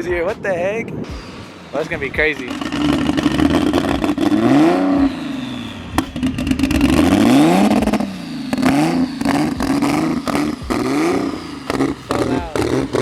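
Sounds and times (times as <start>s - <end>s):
car engine revving: 1.0s - 13.0s.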